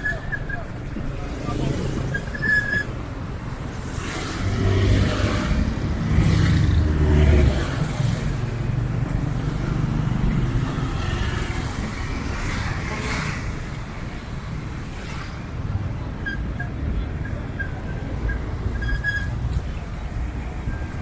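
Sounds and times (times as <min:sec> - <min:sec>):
road noise: 0:00.0 - 0:21.0
vehicle engine rumble: 0:00.0 - 0:21.0.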